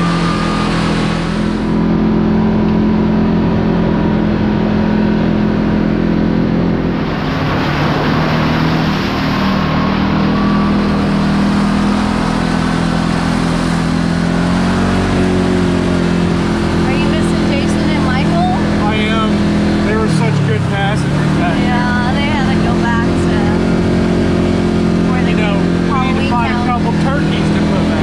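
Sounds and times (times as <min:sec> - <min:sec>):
tyre and road noise: 0:00.0 - 0:28.0
vehicle engine running: 0:00.0 - 0:28.0.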